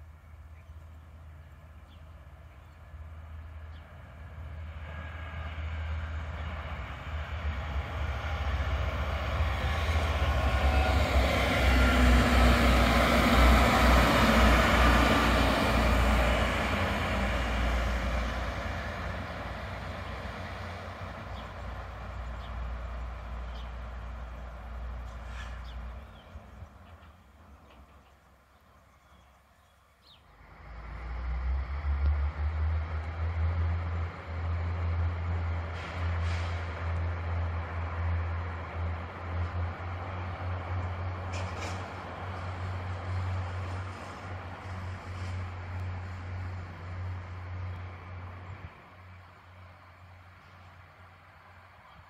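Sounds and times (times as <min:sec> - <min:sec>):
diesel train passing: 0:00.0 - 0:52.0.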